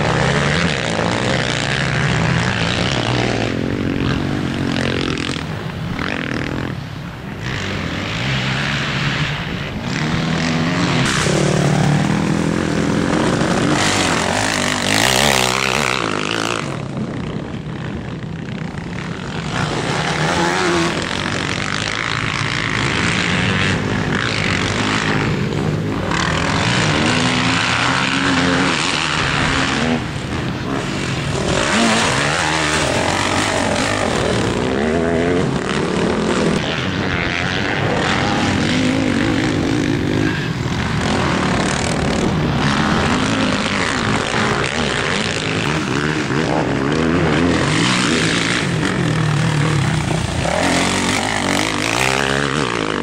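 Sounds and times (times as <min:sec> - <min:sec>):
dirt bike engines revving: 0:00.0 - 0:53.0
dirt bike passing close: 0:00.0 - 0:53.0.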